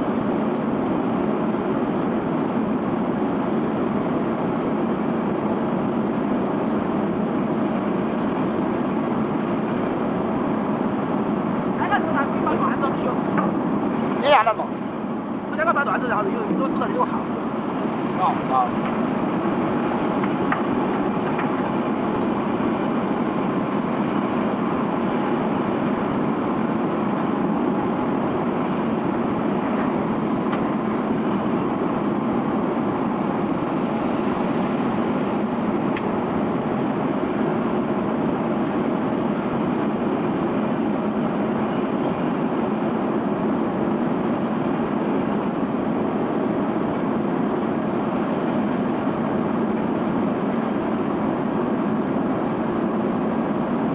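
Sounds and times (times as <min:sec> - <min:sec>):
conveyor belt running: 0:00.0 - 0:53.9.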